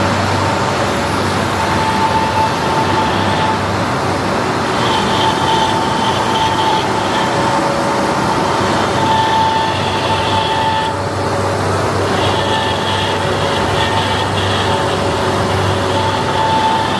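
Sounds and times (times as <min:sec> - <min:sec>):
cutting tool whine: 0:00.0 - 0:16.9
metal lathe droning: 0:00.0 - 0:16.9.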